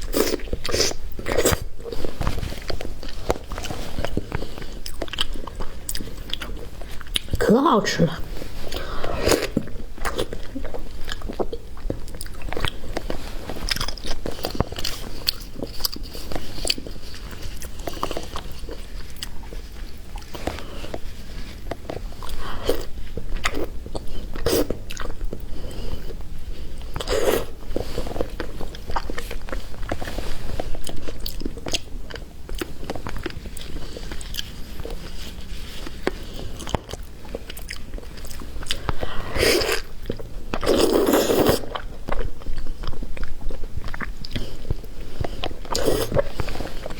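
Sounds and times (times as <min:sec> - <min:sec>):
chewing: 0:00.0 - 0:07.4, 0:08.4 - 0:46.9.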